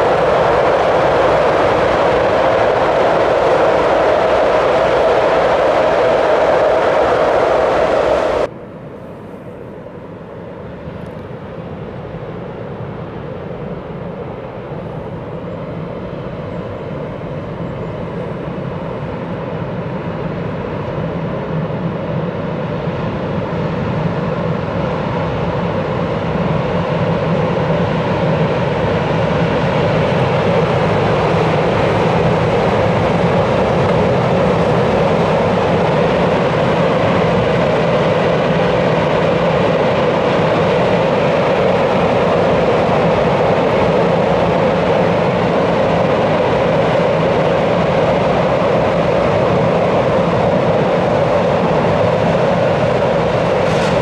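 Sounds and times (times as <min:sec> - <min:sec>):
train rolling across steel bridge: 0:00.0 - 0:08.5, 0:10.6 - 0:54.0.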